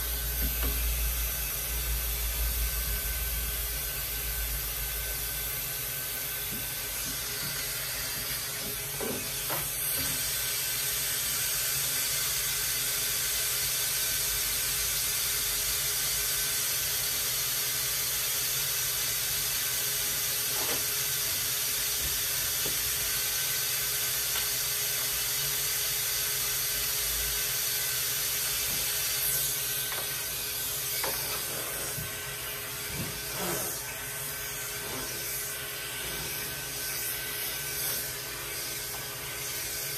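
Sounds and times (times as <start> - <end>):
vacuum motor hissing: 0.0 - 39.9.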